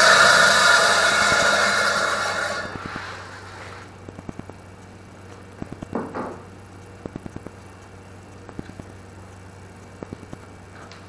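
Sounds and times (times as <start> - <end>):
low hum: 0.0 - 11.0
machine running: 0.0 - 11.0.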